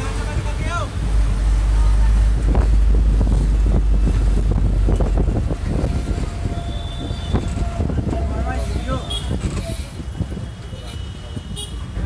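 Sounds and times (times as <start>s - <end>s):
street traffic: 0.0s - 12.0s
wind buffeting microphone: 0.2s - 12.0s.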